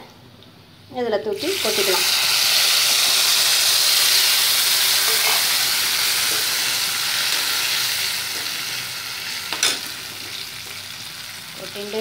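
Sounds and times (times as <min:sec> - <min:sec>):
liquid sizzling in hot oil: 0:01.4 - 0:12.0.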